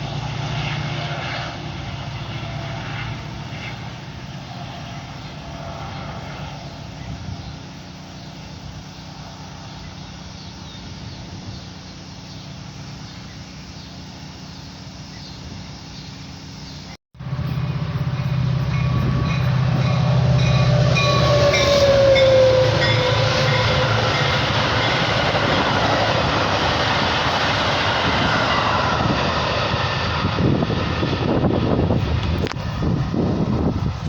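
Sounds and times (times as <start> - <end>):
train cars rumbling past: 0.0 - 34.0
train engine hum: 0.0 - 34.0.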